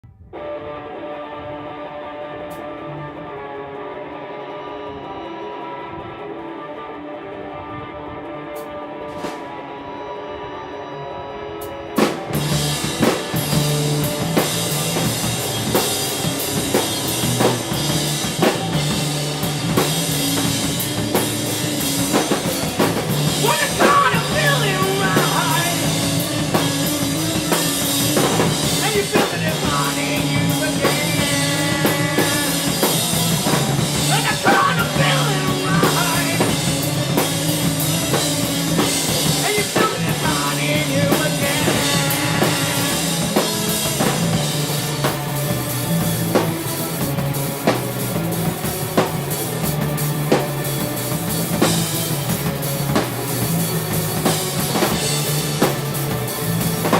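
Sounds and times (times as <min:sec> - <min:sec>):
rock band playing live: 0:00.3 - 0:56.9
drum kit: 0:00.4 - 0:56.9.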